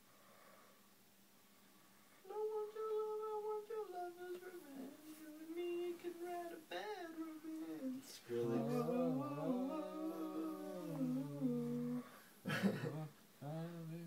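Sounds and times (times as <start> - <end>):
voices humming a tune: 2.3 - 14.0.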